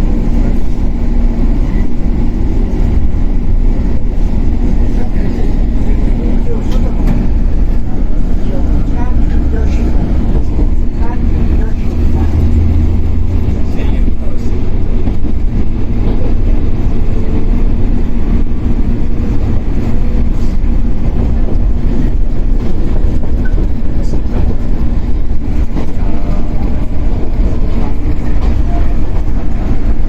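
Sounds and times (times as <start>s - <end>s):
train motor and wheels rumbling: 0.0s - 30.0s.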